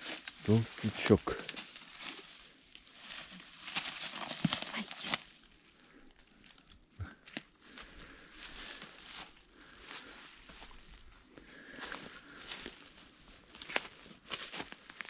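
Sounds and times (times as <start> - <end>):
dry leaves rustling and crackling: 0.0 - 6.8, 7.6 - 15.0.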